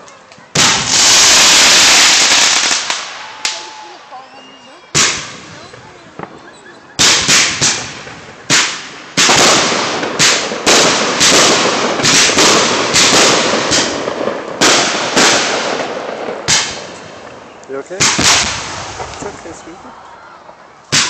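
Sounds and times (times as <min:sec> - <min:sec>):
fireworks shells bursting: 0:00.6 - 0:19.6.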